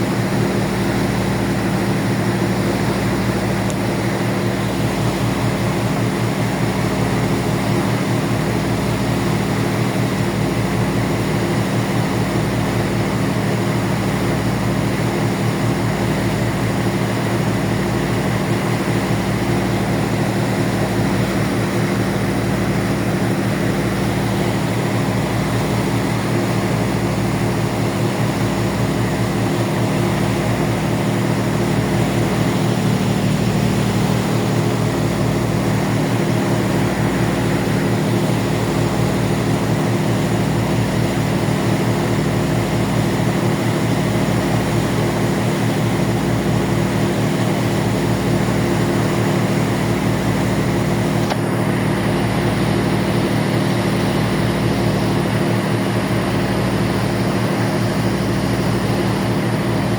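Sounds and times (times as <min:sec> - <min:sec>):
ferry engines droning: 0:00.0 - 0:59.9.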